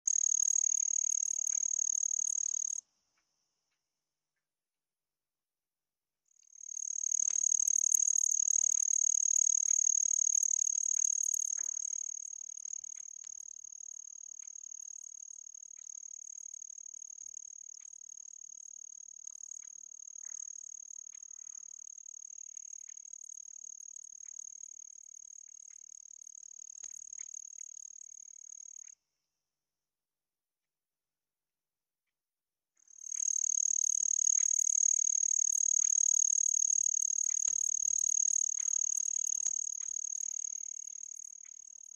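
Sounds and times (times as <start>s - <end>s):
insects trilling: 0.1s - 2.8s, 6.5s - 29.0s, 32.9s - 41.9s.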